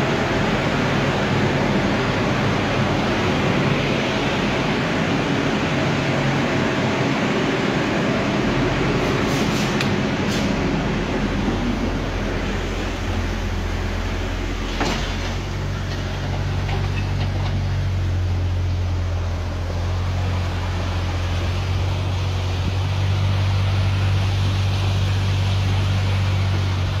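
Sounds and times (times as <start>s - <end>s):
engine running low hum: 0.0s - 27.0s.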